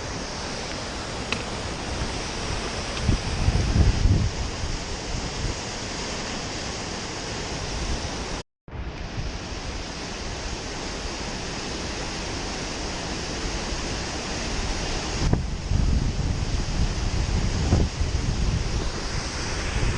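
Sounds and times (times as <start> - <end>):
waterfall rushing: 0.0 - 8.4, 9.0 - 19.9.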